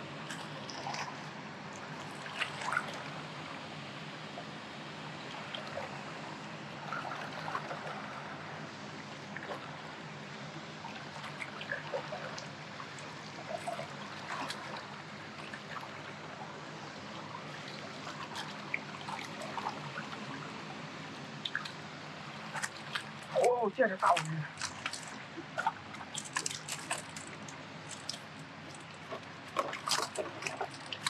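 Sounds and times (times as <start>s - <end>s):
river water flowing: 0.0s - 31.0s.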